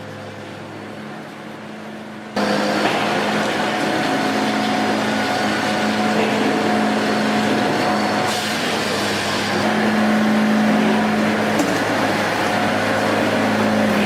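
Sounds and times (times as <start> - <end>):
machine engine humming: 0.0 - 14.0.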